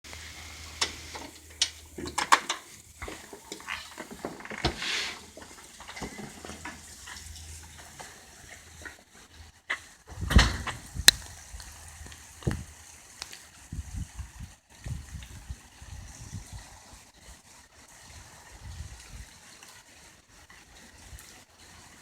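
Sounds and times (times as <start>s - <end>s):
light rain patter: 0.0s - 22.0s.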